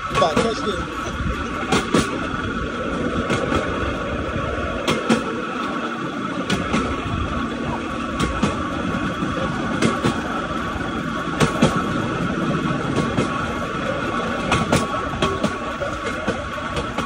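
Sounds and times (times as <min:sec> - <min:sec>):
steel wheels rolling on track: 0:00.0 - 0:17.0
wheels clicking over rail joints: 0:00.0 - 0:17.0.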